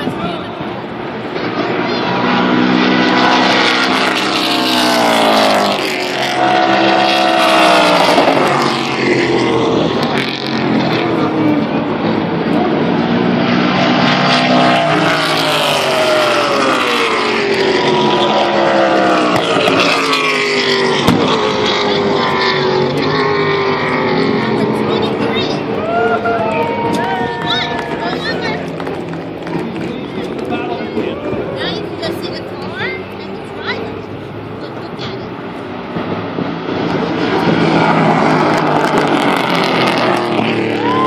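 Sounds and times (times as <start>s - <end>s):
race cars passing at speed: 0.0s - 41.0s.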